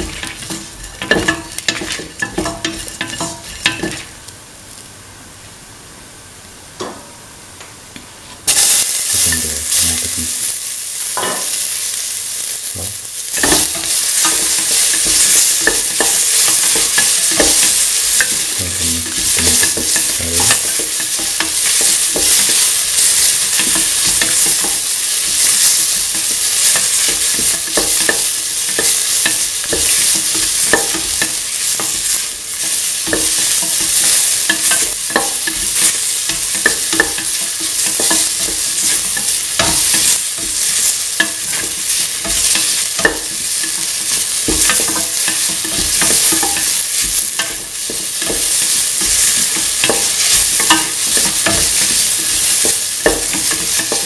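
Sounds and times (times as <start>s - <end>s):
utensil scraping on pan: 0.0s - 4.2s, 13.3s - 54.0s
food sizzling in oil: 0.0s - 5.0s, 8.2s - 54.0s.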